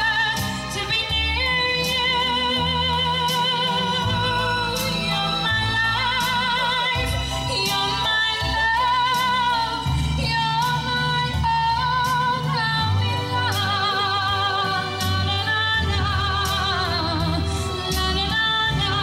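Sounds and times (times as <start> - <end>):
bass: 0.0 - 19.0
instrumental accompaniment: 0.0 - 19.0
percussion: 0.0 - 19.0
woman singing into microphone: 0.0 - 19.0.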